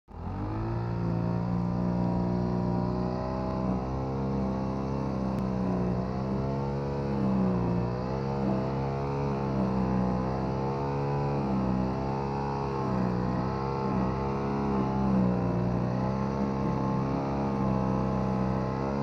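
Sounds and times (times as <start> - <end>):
brush cutter engine running: 0.1 - 19.0.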